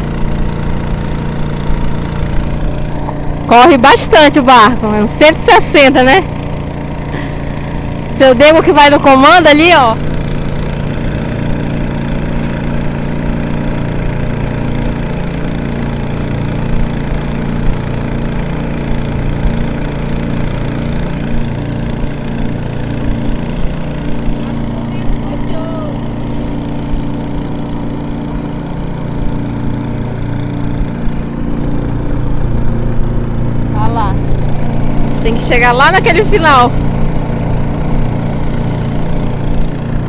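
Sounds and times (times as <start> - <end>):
boat engine drone: 0.0 - 40.0.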